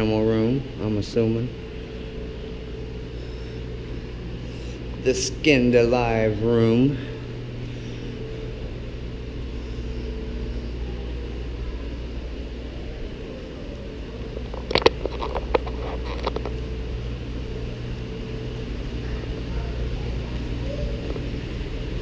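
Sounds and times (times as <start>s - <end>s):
machinery humming: 0.0s - 22.0s.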